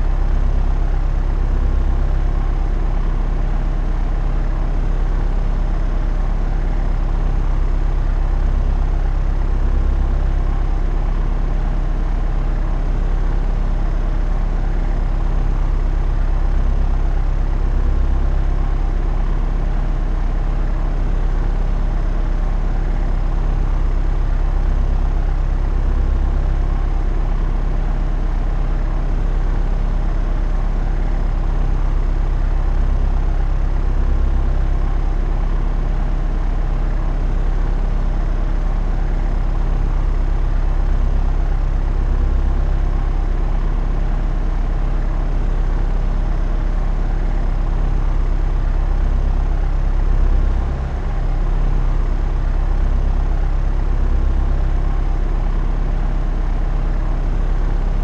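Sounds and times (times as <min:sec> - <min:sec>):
propeller aeroplane droning: 0:00.0 - 0:58.0.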